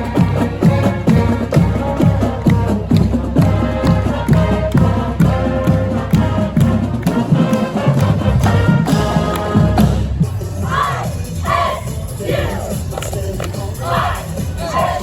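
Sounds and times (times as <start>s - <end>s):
music with steady beat and chords: 0.0s - 15.0s.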